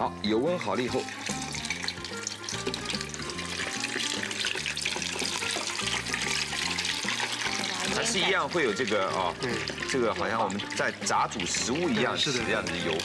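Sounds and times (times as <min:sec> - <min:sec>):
background music: 0:00.0 - 0:13.0
meat sizzling in hot fat: 0:00.0 - 0:13.0.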